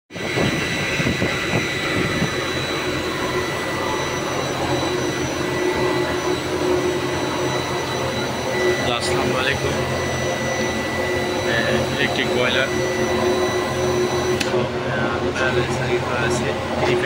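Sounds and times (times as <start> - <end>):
electric steam boiler running: 0.1 - 17.0.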